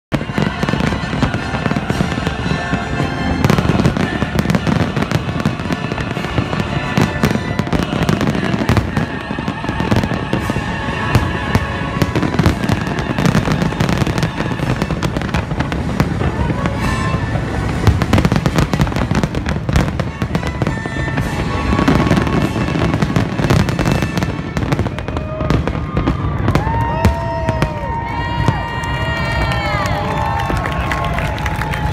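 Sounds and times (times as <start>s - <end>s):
fireworks bursting and crackling: 0.1s - 31.9s.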